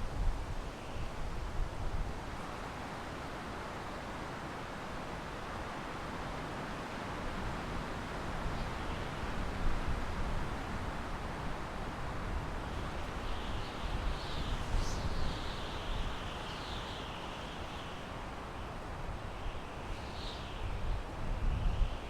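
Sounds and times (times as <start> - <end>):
wind through pine trees: 0.0 - 22.0.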